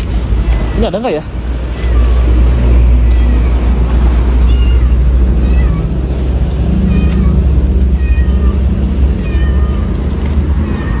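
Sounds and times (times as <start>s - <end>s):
low steady rumble: 0.0s - 11.0s
high-pitched cat meows: 1.6s - 11.0s.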